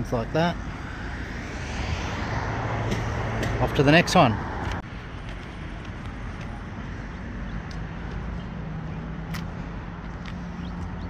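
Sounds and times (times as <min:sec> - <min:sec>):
road traffic: 0:00.0 - 0:11.0
vehicle engine hum: 0:00.0 - 0:11.0.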